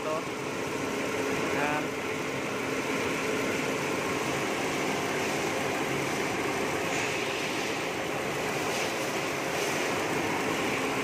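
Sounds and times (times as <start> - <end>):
car engine idling and misfiring: 0.0 - 11.0
electric radiator cooling fan: 0.0 - 11.0.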